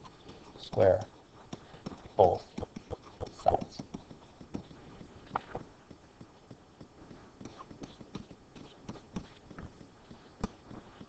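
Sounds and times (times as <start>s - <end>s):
stylus tapping on tablet screen: 0.2s - 11.0s.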